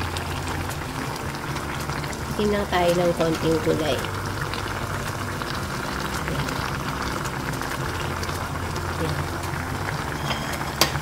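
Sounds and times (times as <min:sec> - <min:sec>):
stew boiling and bubbling: 0:00.0 - 0:11.0.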